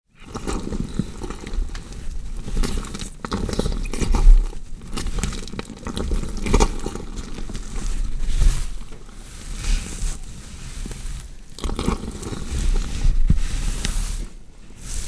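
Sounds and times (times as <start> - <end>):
wet crunching and squelching: 0.1 - 14.3.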